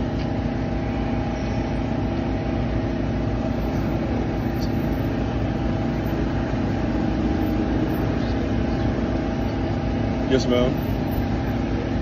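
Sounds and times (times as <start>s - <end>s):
machinery low hum: 0.0s - 12.0s
constant tones: 2.0s - 12.0s.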